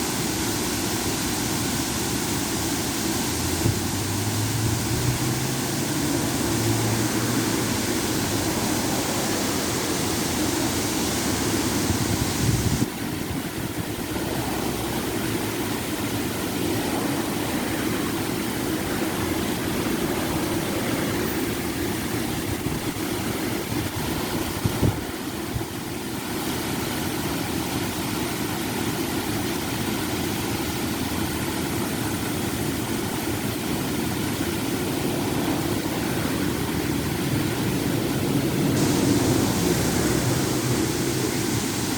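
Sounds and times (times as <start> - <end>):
waterfall pouring into river: 0.0 - 41.9.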